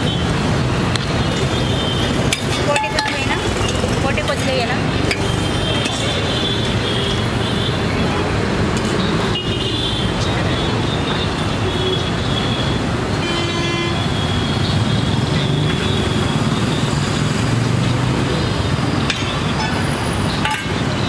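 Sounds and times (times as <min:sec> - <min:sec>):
roadside traffic: 0:00.0 - 0:21.0.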